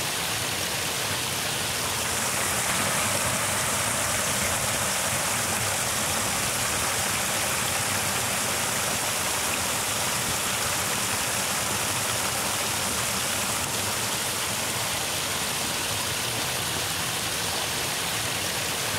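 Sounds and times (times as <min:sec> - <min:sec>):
water pouring over bank: 0:00.0 - 0:18.9.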